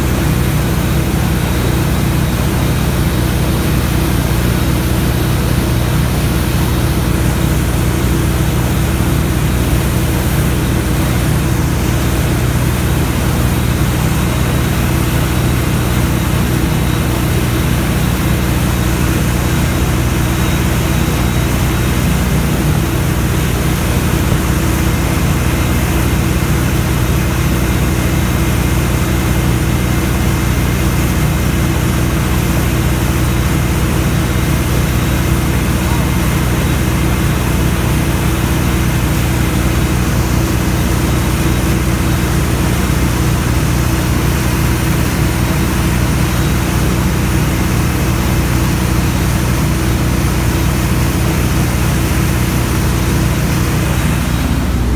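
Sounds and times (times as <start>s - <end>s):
boat engine running: 0.0s - 54.9s
churning wake water: 0.0s - 54.9s.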